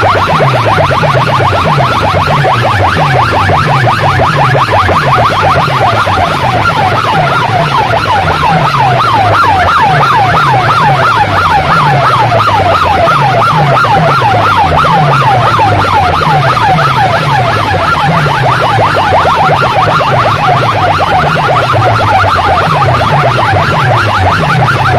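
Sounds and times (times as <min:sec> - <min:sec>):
siren-like electronic sweep: 0:00.0 - 0:24.9
stepped bass line: 0:00.0 - 0:24.9.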